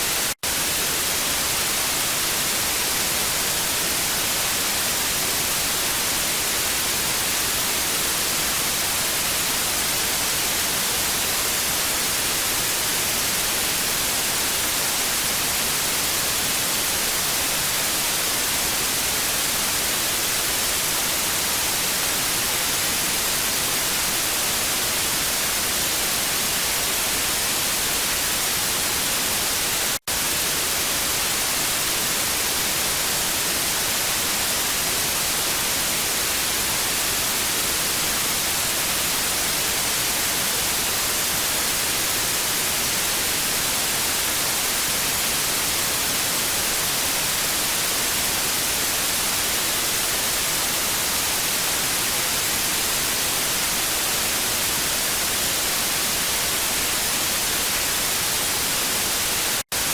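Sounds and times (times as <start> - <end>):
tv static hiss: 0.0 - 59.9.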